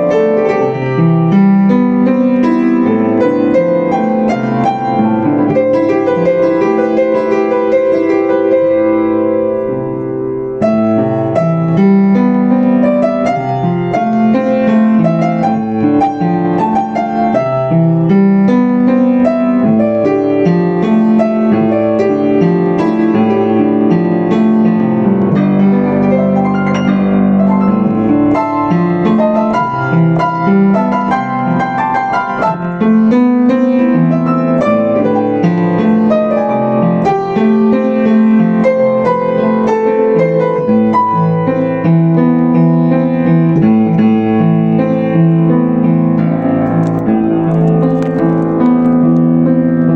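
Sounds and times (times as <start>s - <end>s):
upright piano playing: 0.0s - 49.9s.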